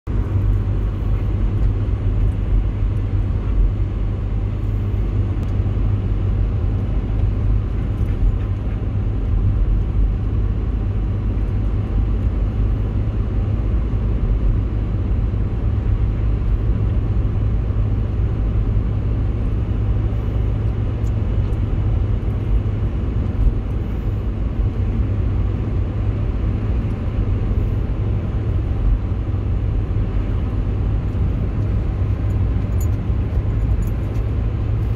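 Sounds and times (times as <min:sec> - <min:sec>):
car engine rumble: 0:00.0 - 0:34.9
tyres on snowy road: 0:00.1 - 0:34.9.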